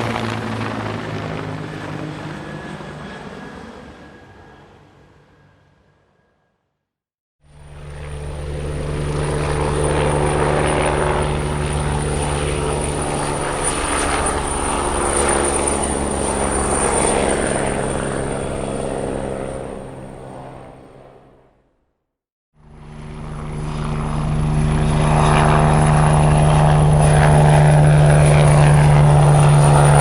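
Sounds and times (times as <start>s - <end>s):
helicopter rotor and engine hum: 0.0s - 6.4s, 7.4s - 21.8s, 22.6s - 30.0s.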